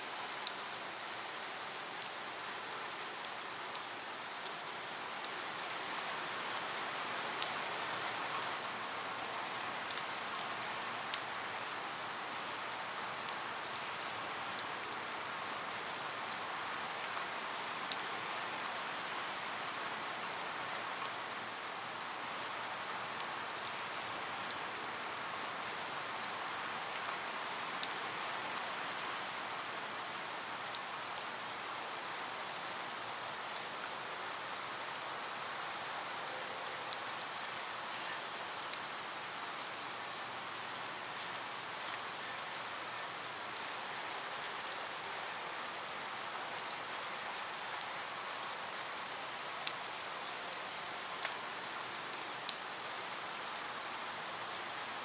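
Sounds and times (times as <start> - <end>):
steady rain hissing: 0.0 - 55.0
raindrops ticking on surface: 0.1 - 55.0.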